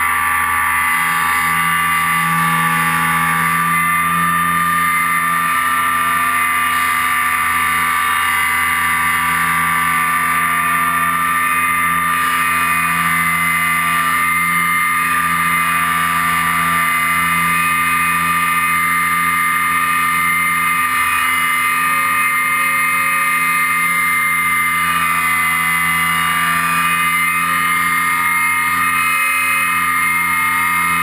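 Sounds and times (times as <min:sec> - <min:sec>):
model airplane motor whine: 0:00.0 - 0:31.0.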